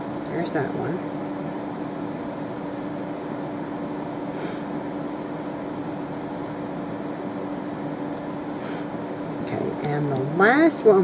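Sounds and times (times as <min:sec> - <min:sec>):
mechanical room hum: 0:00.0 - 0:11.0.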